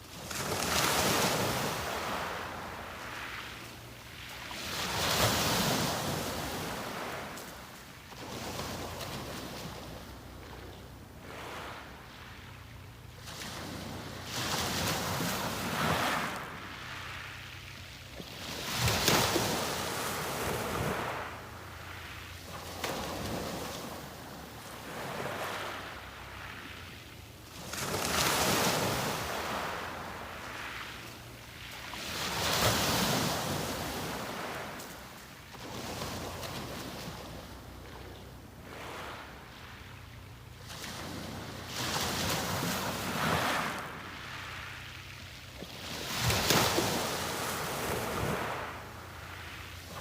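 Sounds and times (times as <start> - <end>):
small waves breaking on beach: 0.0 - 50.0.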